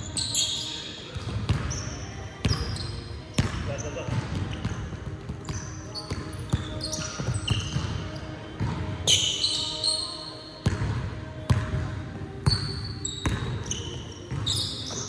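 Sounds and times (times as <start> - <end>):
sneakers squeaking on hardwood: 0.0 - 15.0.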